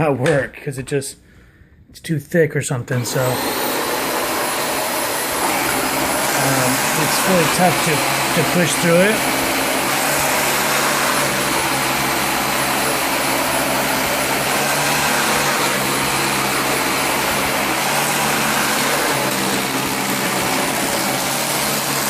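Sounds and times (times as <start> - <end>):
vacuum cleaner running on carpet: 2.9 - 22.0.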